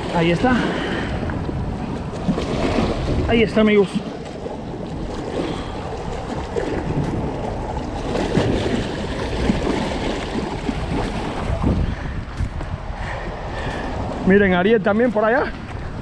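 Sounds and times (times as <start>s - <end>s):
waves sloshing over rocks: 0.0s - 16.0s
wind buffeting microphone: 0.0s - 16.0s.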